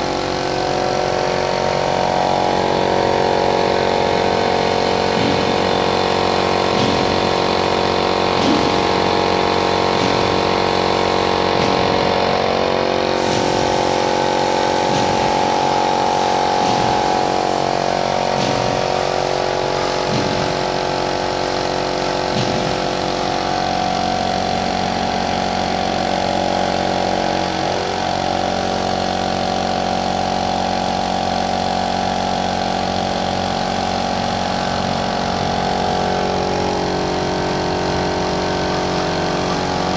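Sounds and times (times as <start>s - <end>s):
air compressor running: 0.0s - 39.9s
spray gun hissing: 0.0s - 39.9s.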